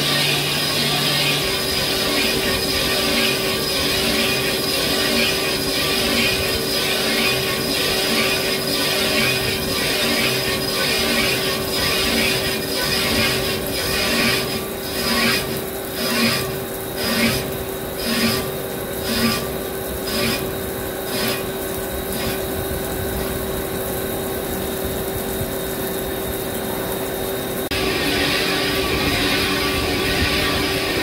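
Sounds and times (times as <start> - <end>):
lathe cutting metal: 0.0 - 23.6, 27.7 - 31.0
constant machine hum: 0.0 - 31.0
coolant spraying: 0.0 - 31.0.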